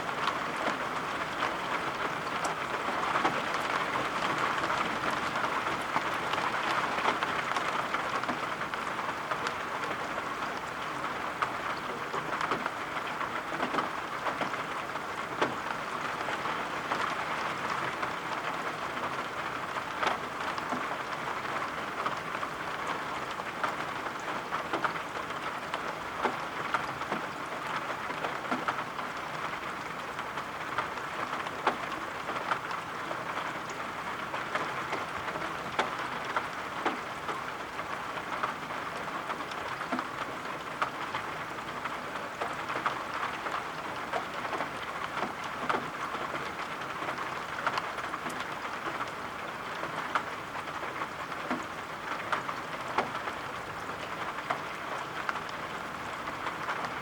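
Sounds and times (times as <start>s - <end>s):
light rain ticks: 0.0s - 57.0s
steady rain falling: 0.0s - 57.0s.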